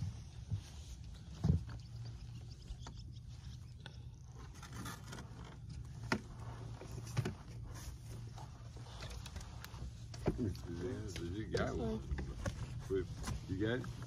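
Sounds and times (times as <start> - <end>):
light clicks and scrapes: 0.0 - 14.0
low steady rumble: 0.0 - 14.0.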